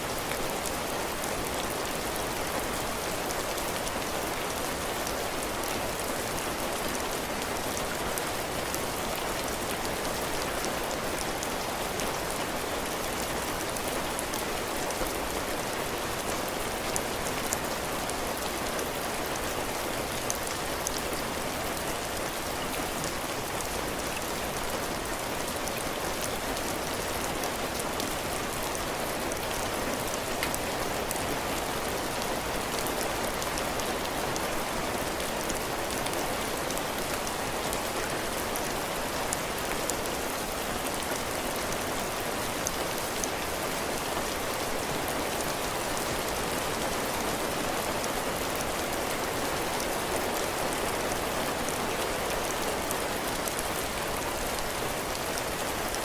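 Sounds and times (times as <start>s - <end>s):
heavy rain on a porch roof: 0.0s - 56.0s.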